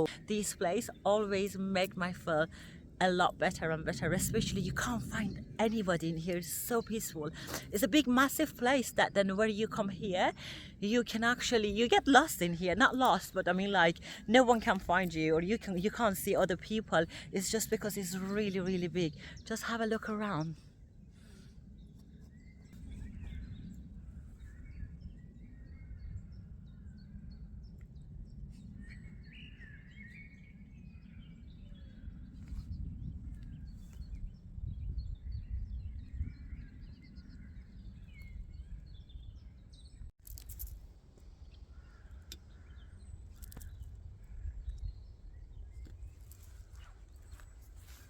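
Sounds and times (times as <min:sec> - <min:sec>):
wind rumble on microphone: 0:00.0 - 0:48.0
small birds chirping: 0:05.1 - 0:40.8, 0:41.4 - 0:48.0.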